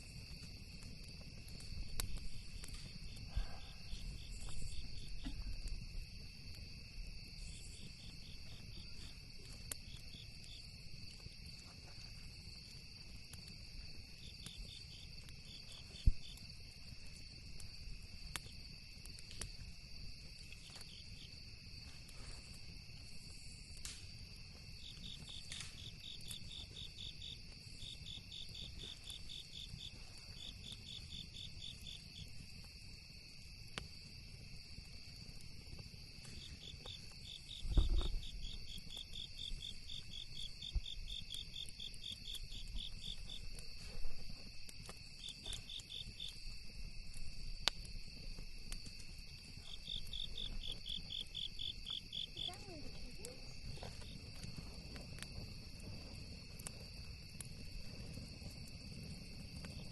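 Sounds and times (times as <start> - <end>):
campfire crackling and popping: 0.0 - 59.9
crickets and insects droning: 0.0 - 59.9.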